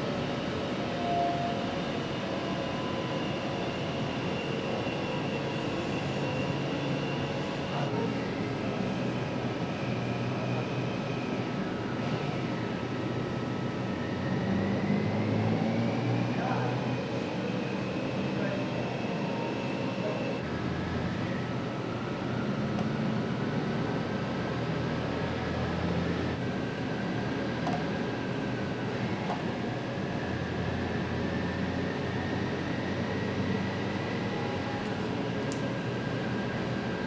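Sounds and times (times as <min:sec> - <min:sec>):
faint high whine: 0:00.0 - 0:37.0.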